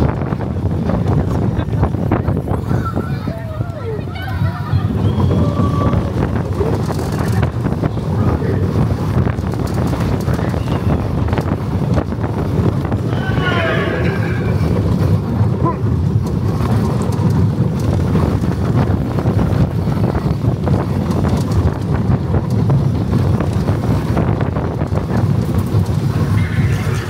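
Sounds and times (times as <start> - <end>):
roller coaster rumbling and rattling: 0.0 - 27.0
wind buffeting microphone: 0.0 - 27.0.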